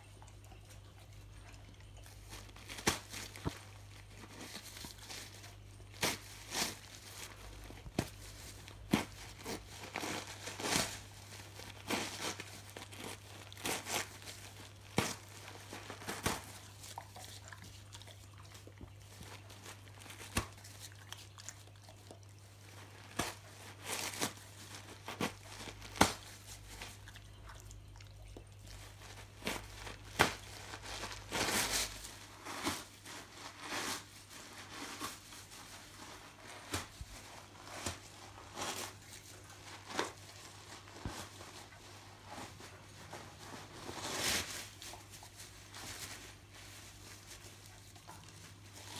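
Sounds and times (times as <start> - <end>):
dog tearing tissue paper: 2.3 - 21.7, 22.5 - 27.1, 28.8 - 48.9.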